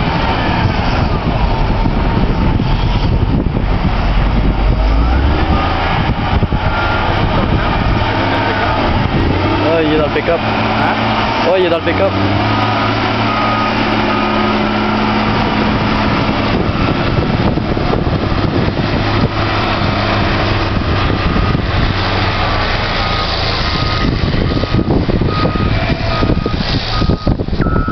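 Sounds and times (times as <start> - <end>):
diesel engine running under load: 0.0 - 27.9.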